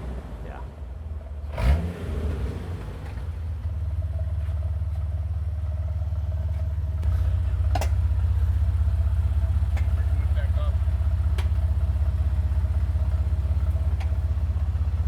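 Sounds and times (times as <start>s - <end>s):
engine exhaust rumble: 0.0s - 15.0s.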